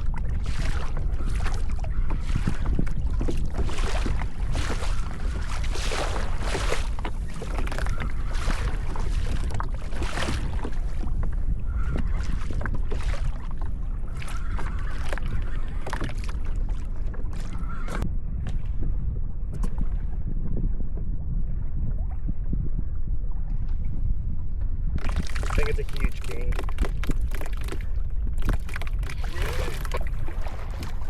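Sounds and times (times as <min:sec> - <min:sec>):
water splashing against kayak hull: 0:00.0 - 0:18.9, 0:24.9 - 0:31.0
wind rumble on microphone: 0:00.0 - 0:31.0.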